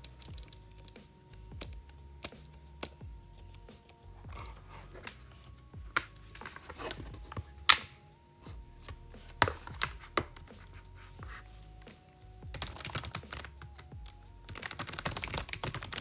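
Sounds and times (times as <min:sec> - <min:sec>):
keyboard typing: 0:00.0 - 0:16.0.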